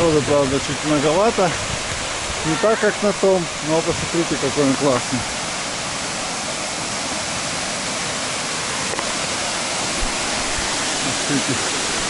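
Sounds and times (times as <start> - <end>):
waterfall rushing over rock: 0.0 - 12.0.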